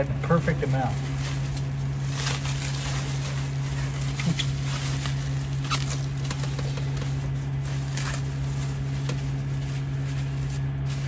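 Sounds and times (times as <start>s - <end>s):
steady low hum: 0.0s - 11.0s
bubble wrap crinkling: 0.3s - 11.0s.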